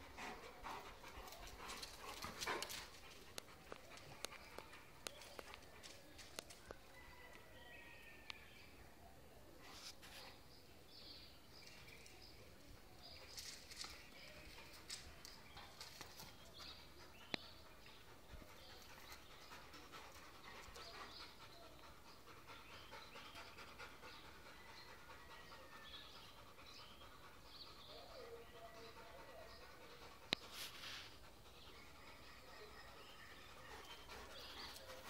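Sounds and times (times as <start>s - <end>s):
dogs panting: 0.0s - 6.9s, 11.6s - 35.0s.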